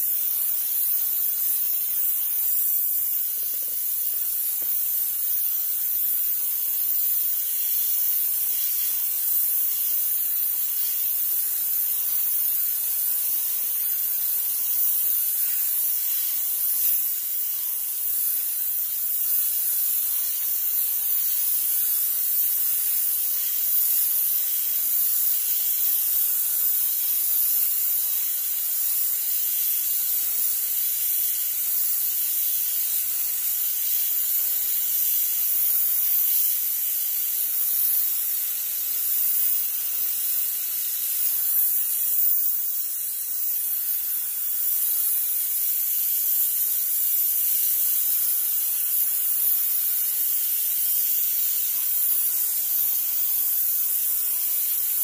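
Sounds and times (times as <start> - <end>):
steam cleaner hissing: 0.0 - 55.0.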